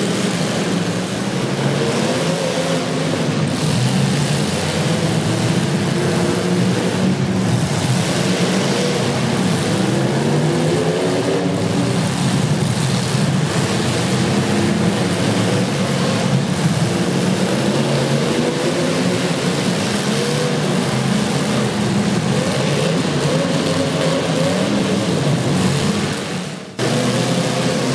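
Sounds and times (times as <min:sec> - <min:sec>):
car engines revving: 0:00.0 - 0:27.9
steady noisy haze: 0:00.0 - 0:27.9.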